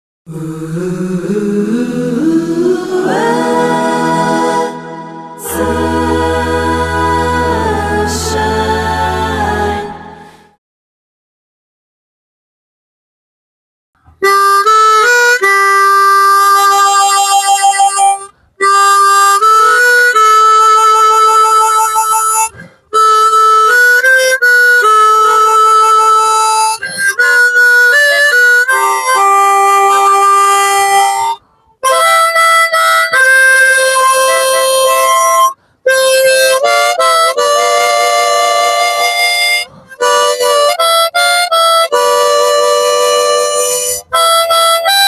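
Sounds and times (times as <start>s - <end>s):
harmonica melody: 0.3s - 10.6s, 14.2s - 45.0s.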